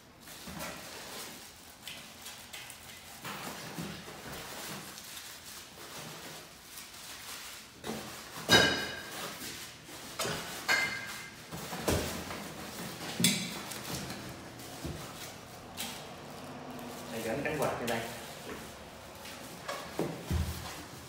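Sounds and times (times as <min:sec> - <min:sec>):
rustling of packing: 0:00.2 - 0:21.0.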